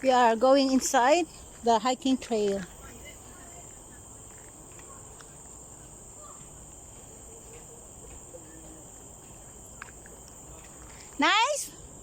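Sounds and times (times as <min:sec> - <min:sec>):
insect chorus shrill whine: 0:00.0 - 0:12.0.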